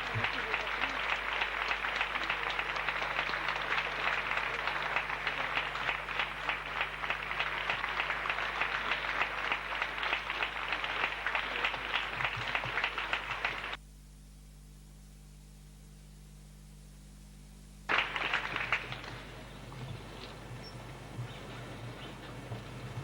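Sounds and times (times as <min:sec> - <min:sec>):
audience applauding: 0:00.0 - 0:13.8, 0:17.9 - 0:23.0
faint steady hum: 0:00.0 - 0:23.0.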